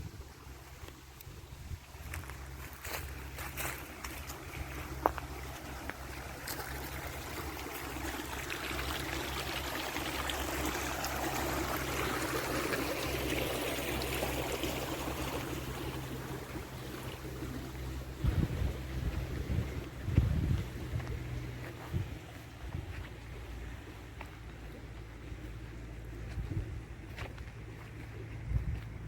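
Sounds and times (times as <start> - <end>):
stream running and splashing: 0.0 - 29.0.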